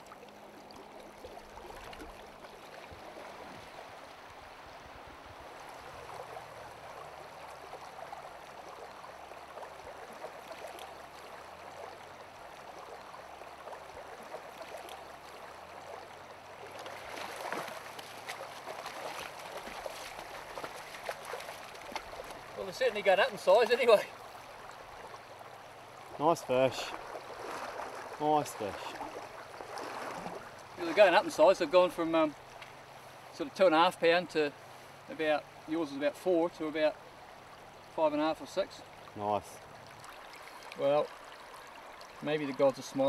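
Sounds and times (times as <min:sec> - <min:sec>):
river water over gravel: 0:00.0 - 0:43.0.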